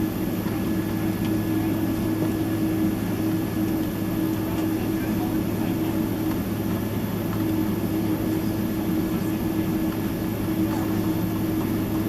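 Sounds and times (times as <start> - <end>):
aircraft cabin hum: 0.2 - 12.0.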